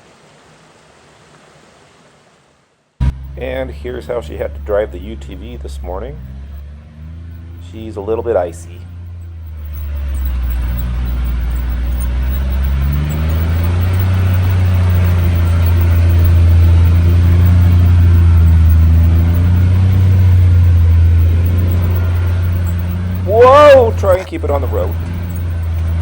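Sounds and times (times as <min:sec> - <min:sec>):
utility vehicle engine running: 0:03.0 - 0:26.0.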